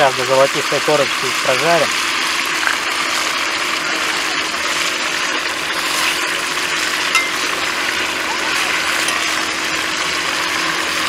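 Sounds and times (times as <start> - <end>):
frying in hot oil: 0.0 - 11.0.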